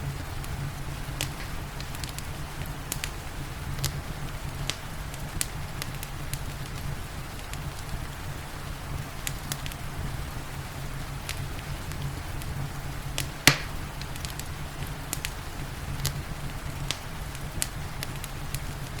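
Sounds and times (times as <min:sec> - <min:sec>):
rain hissing: 0:00.0 - 0:19.0
wood fire crackling and popping: 0:00.0 - 0:19.0.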